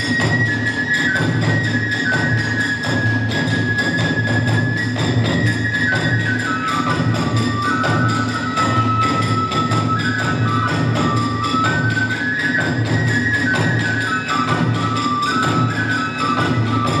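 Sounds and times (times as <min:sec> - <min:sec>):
bamboo flute melody: 0:00.0 - 0:17.0
small hand cymbals: 0:00.0 - 0:17.0
taiko drums beat: 0:00.0 - 0:17.0.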